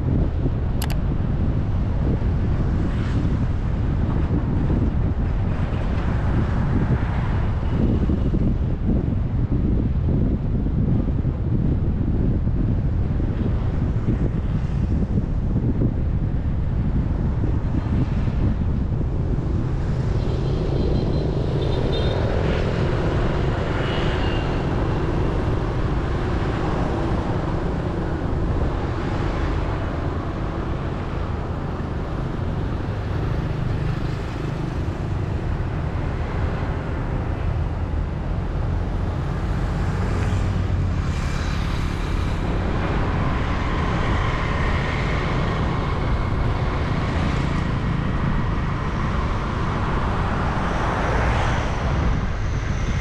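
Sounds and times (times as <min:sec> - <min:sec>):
passing traffic: 0:00.0 - 0:53.0
wind and road noise: 0:00.0 - 0:53.0.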